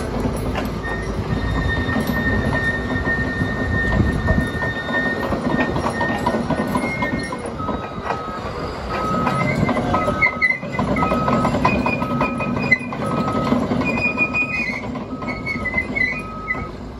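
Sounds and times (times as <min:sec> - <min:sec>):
diesel engine running: 0:00.0 - 0:16.9
steel tracks clanking and squealing: 0:00.0 - 0:16.9
backup alarm beeping: 0:00.8 - 0:16.8.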